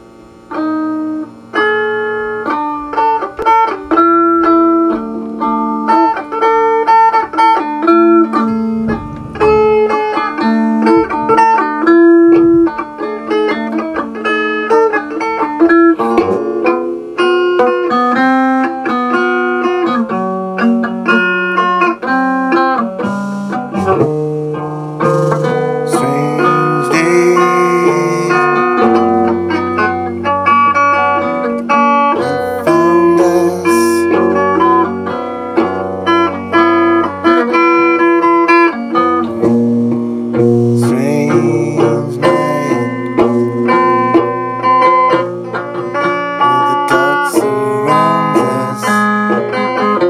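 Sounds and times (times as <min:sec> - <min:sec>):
electric guitar melody: 0:00.0 - 0:50.0.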